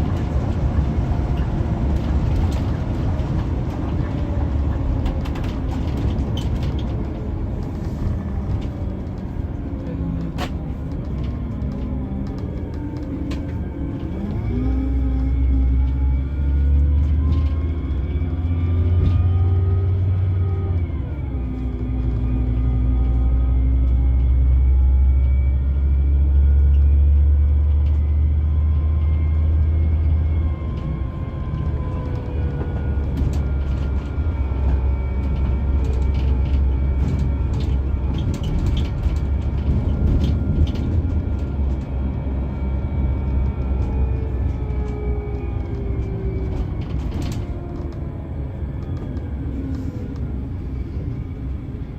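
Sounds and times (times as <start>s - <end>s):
coach diesel engine accelerating: 0.0s - 51.9s.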